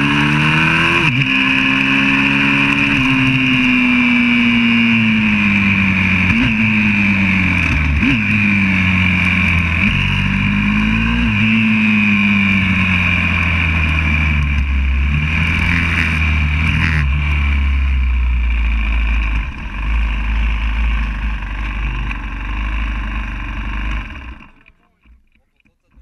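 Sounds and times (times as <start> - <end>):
pit bike engine revving: 0.0 - 24.8.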